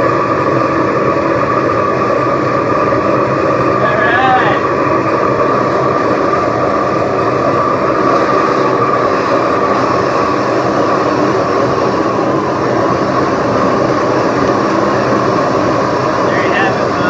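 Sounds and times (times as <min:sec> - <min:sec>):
constant whine: 0:00.0 - 0:17.0
furnace roaring: 0:00.0 - 0:17.0.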